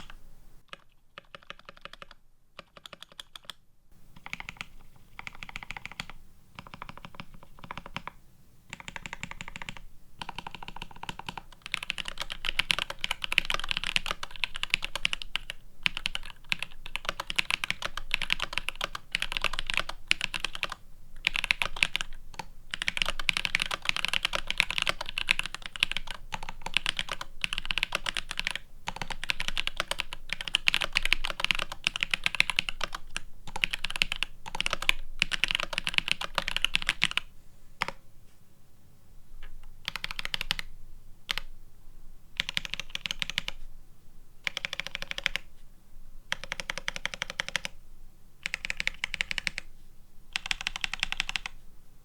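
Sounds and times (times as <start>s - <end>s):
mechanical keyboard typing: 0.0s - 3.6s, 4.2s - 38.0s, 39.5s - 40.7s, 41.3s - 41.5s, 42.4s - 43.6s, 44.4s - 45.5s, 46.3s - 47.8s, 48.4s - 49.7s, 50.3s - 51.6s.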